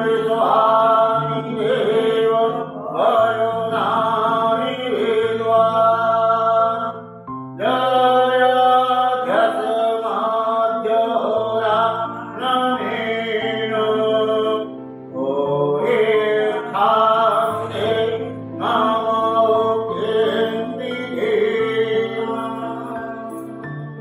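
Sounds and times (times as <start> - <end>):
chanted mantra singing: 0.0 - 7.0, 7.6 - 23.6.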